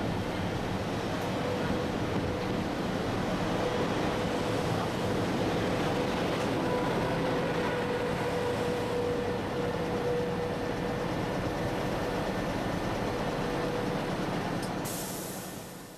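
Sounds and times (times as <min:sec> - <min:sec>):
train wheels rumbling on rail: 0:00.0 - 0:15.9.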